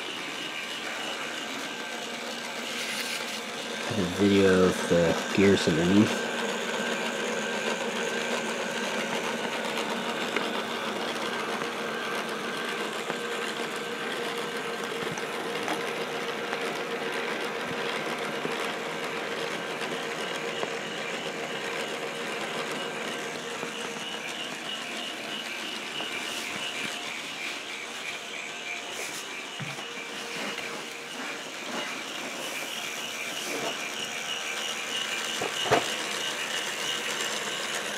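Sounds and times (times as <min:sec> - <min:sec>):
whir of plastic gears: 0:00.0 - 0:37.9.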